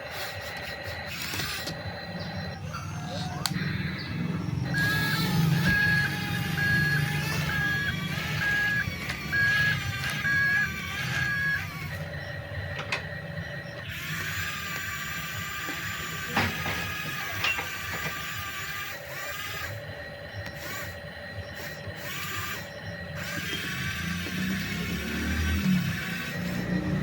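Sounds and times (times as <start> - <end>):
small electric motors whirring: 0.0 - 27.0.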